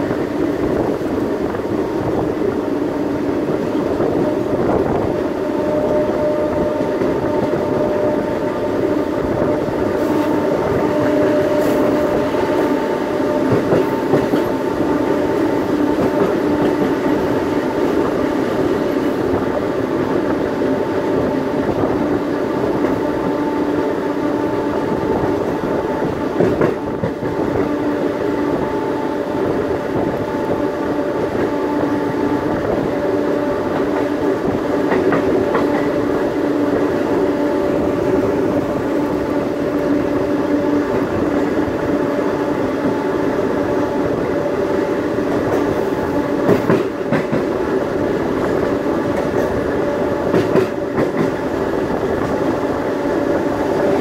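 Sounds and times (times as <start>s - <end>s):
electrical hum of train: 0.0s - 54.0s
train wheel and track rumble: 0.0s - 54.0s.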